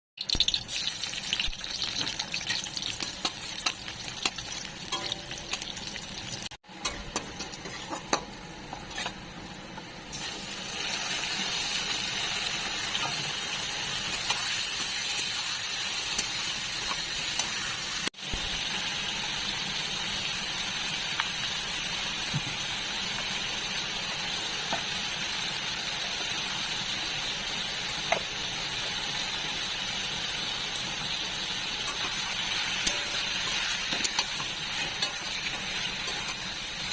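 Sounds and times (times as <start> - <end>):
curry sizzling in a pan: 0.2 - 36.9.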